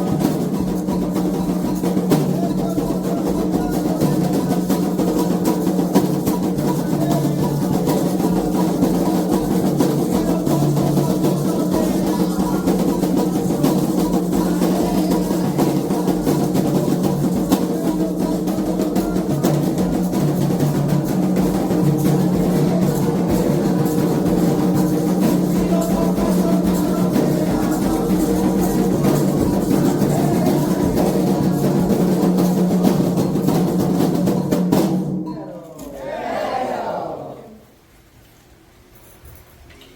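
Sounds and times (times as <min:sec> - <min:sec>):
hand drums playing fast rhythm: 0:00.0 - 0:35.3.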